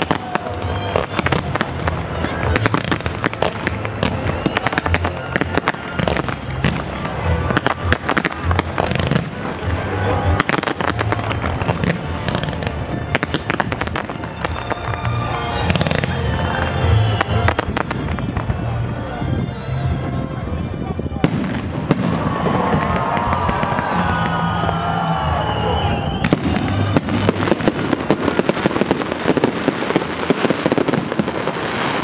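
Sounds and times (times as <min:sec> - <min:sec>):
fireworks bursting and crackling: 0:00.0 - 0:18.8, 0:21.2 - 0:32.0.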